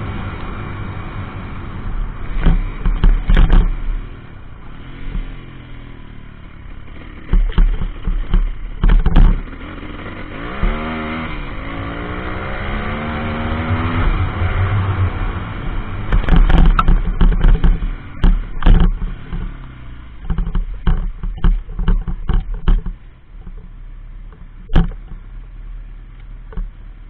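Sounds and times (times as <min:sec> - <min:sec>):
motorbike engine revving: 0:00.0 - 0:23.7.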